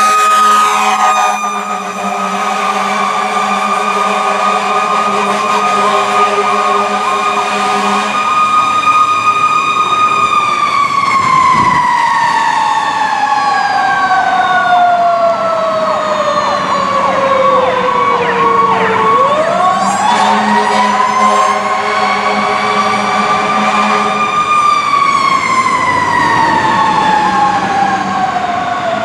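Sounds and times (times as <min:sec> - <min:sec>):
fire engine siren winding: 0:00.0 - 0:29.0
lower steady siren tone: 0:00.0 - 0:29.0
steady high siren tone: 0:00.0 - 0:29.0.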